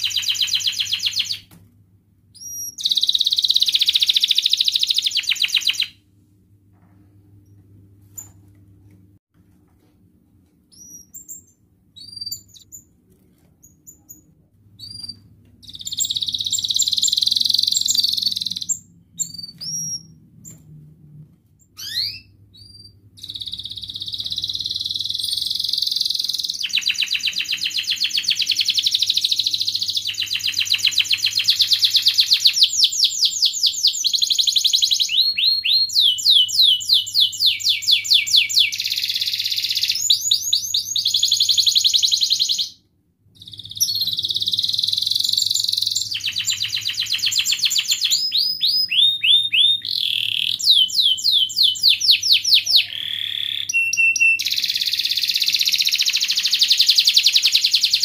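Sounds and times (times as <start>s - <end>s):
canary singing: 0.0s - 1.5s, 2.3s - 5.9s, 10.7s - 12.9s, 13.6s - 20.6s, 21.6s - 42.8s, 43.4s - 58.0s.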